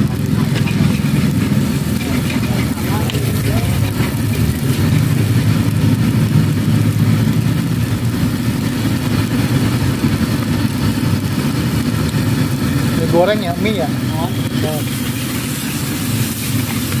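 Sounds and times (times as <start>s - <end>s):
gas burner roaring: 0.0s - 17.0s
vegetables frying in a wok: 0.0s - 17.0s.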